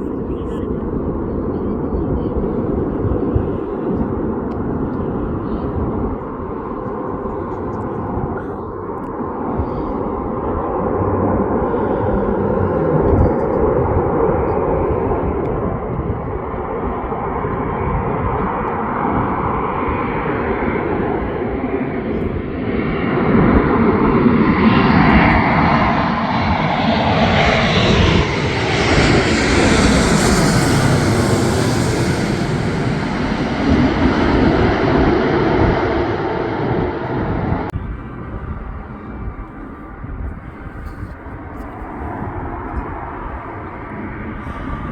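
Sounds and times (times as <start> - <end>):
aircraft passing close: 0.0 - 44.9.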